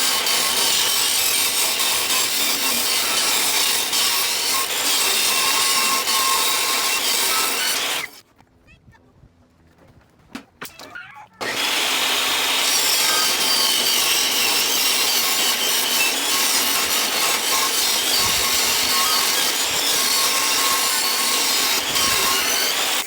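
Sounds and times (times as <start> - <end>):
electric sander on wood: 0.0 - 8.2, 11.4 - 23.0.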